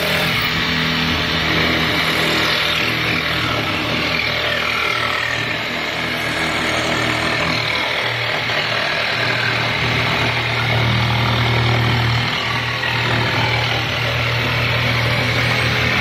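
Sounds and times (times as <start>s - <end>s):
electric jigsaw cutting plywood: 0.0s - 16.0s.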